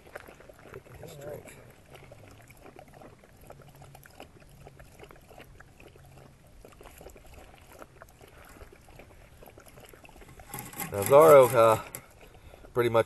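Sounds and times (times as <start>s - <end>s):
dog lapping water: 0.0s - 13.0s.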